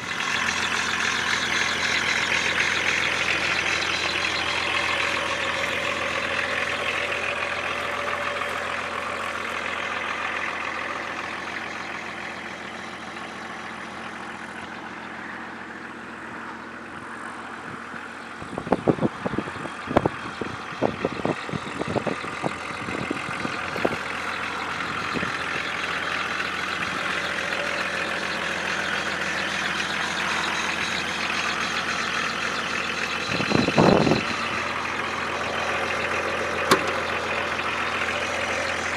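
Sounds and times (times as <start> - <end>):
diesel engine running: 0.0 - 38.9
engine clicks and knocks: 0.0 - 38.9.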